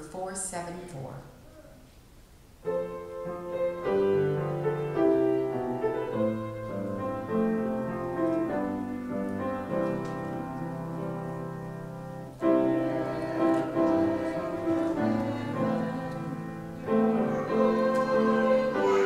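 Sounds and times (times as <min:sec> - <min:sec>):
piano playing a hymn: 0:02.5 - 0:19.0.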